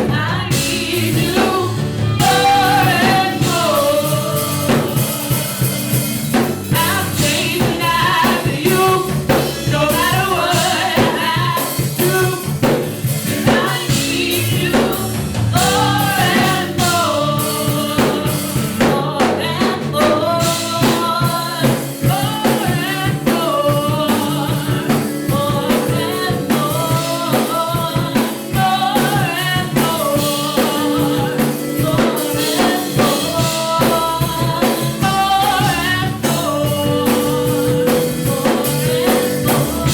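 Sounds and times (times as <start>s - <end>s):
band playing: 0.0s - 39.9s
drum kit beat: 0.0s - 39.9s
gospel singing: 0.0s - 39.9s.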